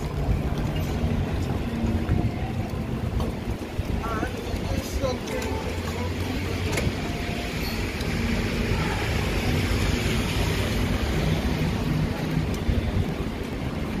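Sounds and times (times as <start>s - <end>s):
traffic passing: 0.0s - 14.0s
wind rumble: 0.0s - 14.0s.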